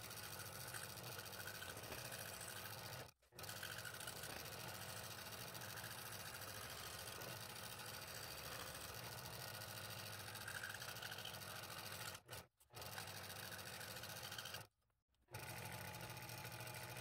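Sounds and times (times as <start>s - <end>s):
scroll saw cutting wood: 0.0s - 14.8s, 15.4s - 17.0s.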